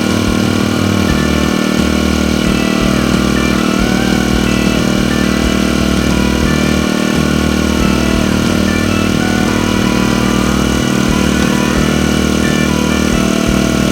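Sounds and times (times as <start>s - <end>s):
small water pump engine running: 0.0s - 13.9s.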